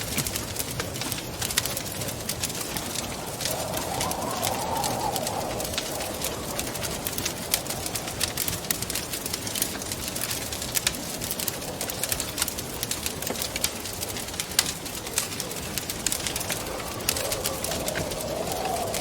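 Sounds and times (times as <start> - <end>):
wind howling: 0.0 - 19.0
wood fire crackling and popping: 0.0 - 19.0.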